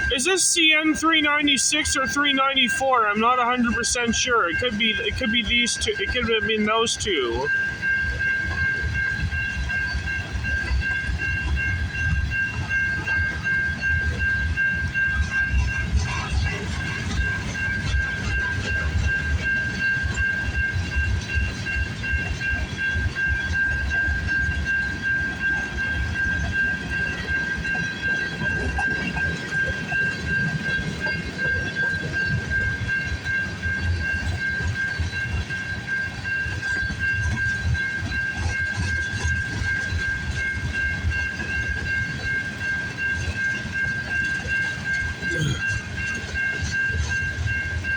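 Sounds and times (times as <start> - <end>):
train rumble: 0.0 - 47.9.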